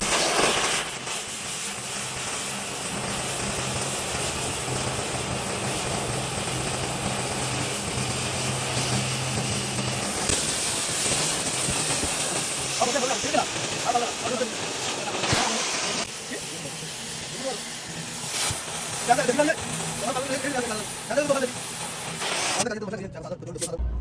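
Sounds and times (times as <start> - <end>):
machine humming and hissing: 0.0 - 22.6.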